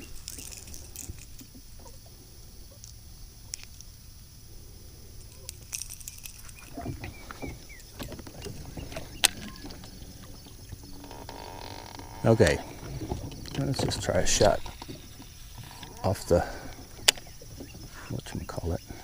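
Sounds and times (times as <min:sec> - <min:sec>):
fishing tackle clicks and rustles: 0:00.0 - 0:01.9, 0:05.2 - 0:19.0
low outdoor background: 0:00.0 - 0:19.0.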